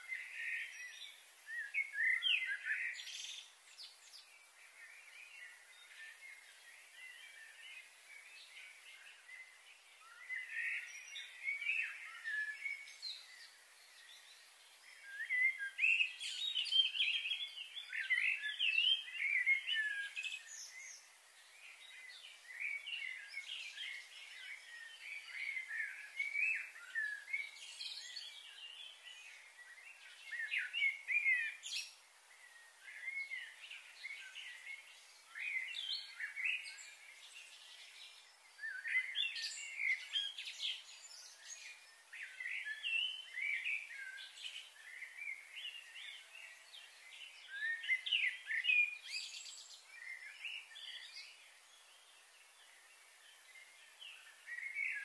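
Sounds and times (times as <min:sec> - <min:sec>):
faint outdoor hiss: 0:00.0 - 0:55.0
small birds chirping: 0:00.0 - 0:55.0.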